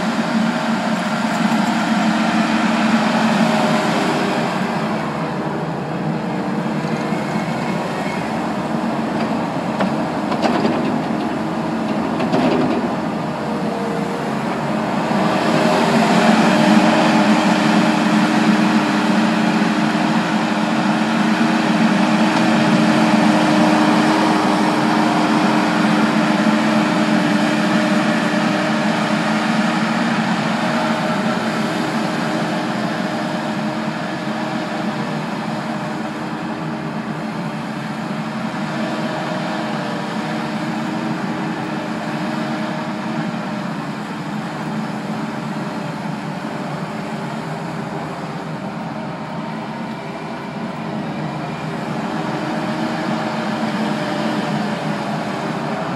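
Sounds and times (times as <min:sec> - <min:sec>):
diesel engine running: 0:00.0 - 0:55.9
loader bucket scooping mulch: 0:00.0 - 0:55.9.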